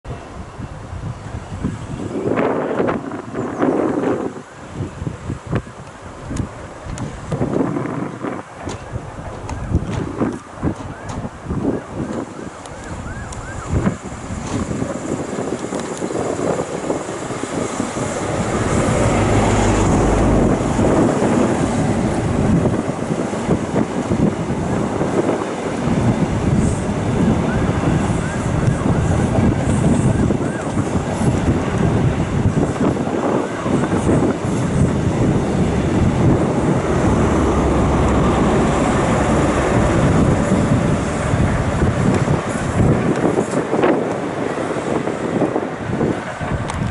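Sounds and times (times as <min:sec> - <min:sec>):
train wheels rumbling on rails: 0:00.1 - 0:11.5, 0:12.1 - 0:46.9
diesel engine hum: 0:00.1 - 0:46.9.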